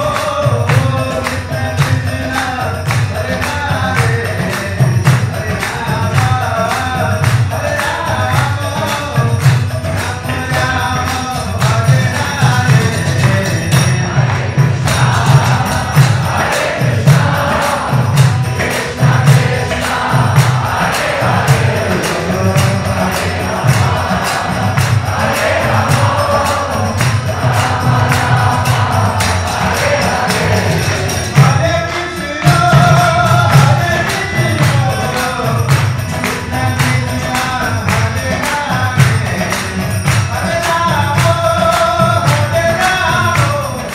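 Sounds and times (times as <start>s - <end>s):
drum beat: 0.0s - 43.9s
jingling metal percussion: 0.0s - 43.9s
voices singing together: 0.0s - 43.9s.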